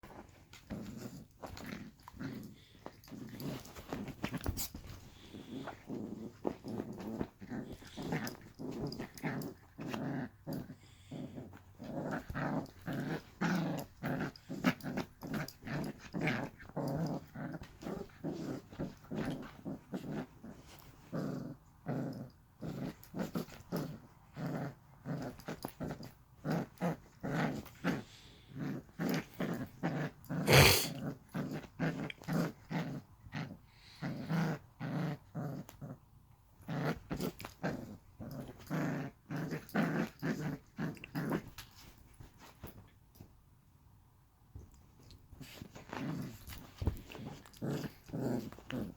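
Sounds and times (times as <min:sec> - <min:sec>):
puppy growling: 0:00.1 - 0:42.8, 0:45.0 - 0:48.9.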